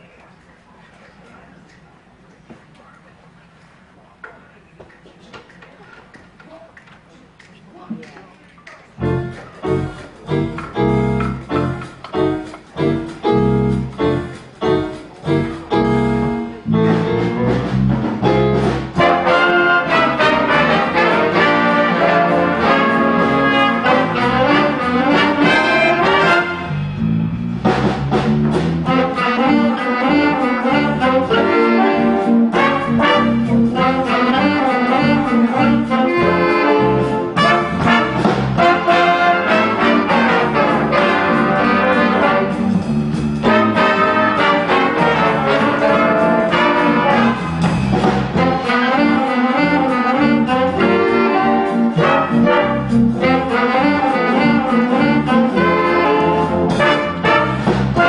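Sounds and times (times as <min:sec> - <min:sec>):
jazz big band playing: 0:08.8 - 0:58.0.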